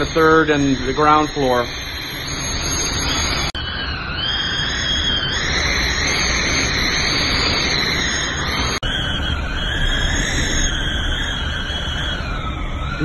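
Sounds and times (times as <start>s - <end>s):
faint high wind whistle: 0.0s - 13.0s
strong wind rushing: 0.0s - 13.0s.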